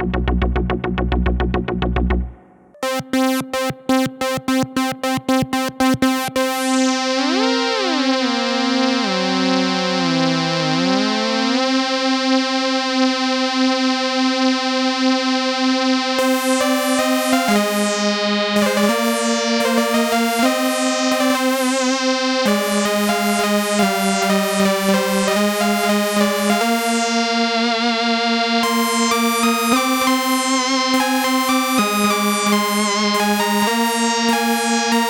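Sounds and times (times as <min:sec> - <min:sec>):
analog synthesizer lead line: 0:00.0 - 0:14.1, 0:16.1 - 0:35.0.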